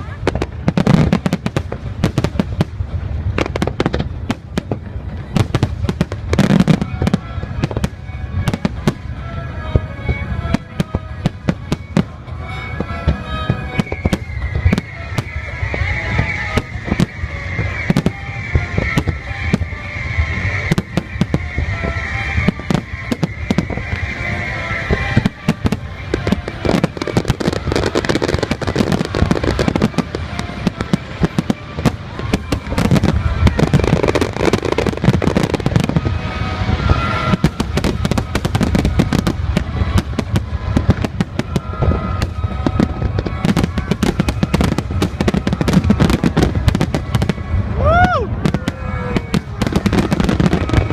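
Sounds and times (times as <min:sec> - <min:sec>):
fireworks crackling: 0:00.0 - 0:50.9.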